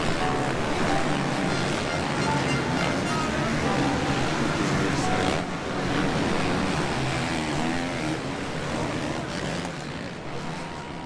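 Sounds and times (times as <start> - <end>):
motocross bike engines revving: 0.1 - 11.0.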